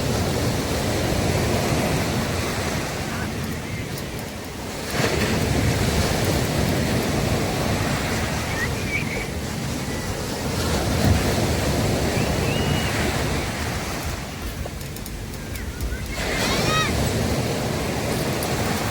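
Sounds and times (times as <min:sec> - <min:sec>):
sea waves breaking on beach: 0:00.0 - 0:18.9
wind buffeting microphone: 0:00.0 - 0:18.9.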